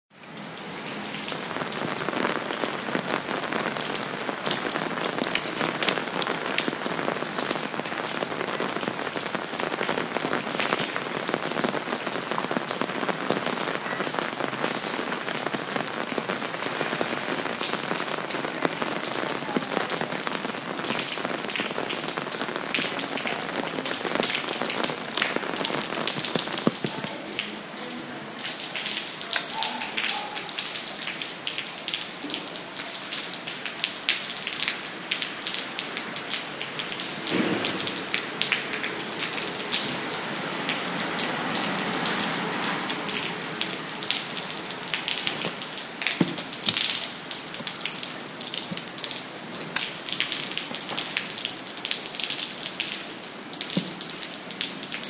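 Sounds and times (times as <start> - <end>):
rain on an umbrella: 0.1 - 55.0
rain splashing on ground: 0.1 - 55.0.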